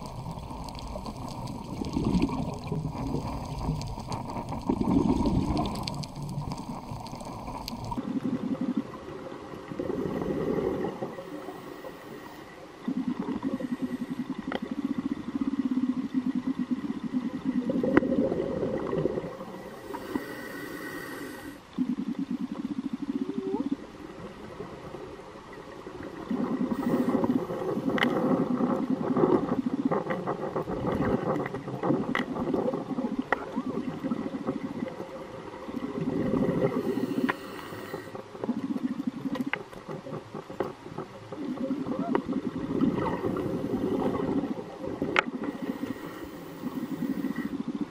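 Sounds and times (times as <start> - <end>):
exhaled bubbles gurgling underwater: 0.0 - 47.9.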